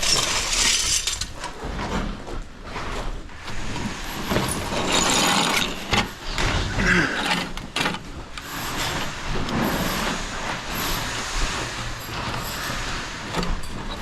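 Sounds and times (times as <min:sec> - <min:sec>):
scraping and rubbing: 0:00.0 - 0:14.0.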